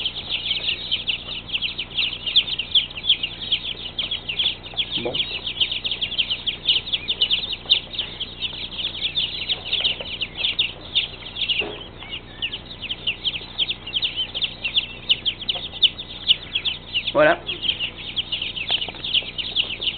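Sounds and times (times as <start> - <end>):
chicks peeping: 0.0 - 19.9.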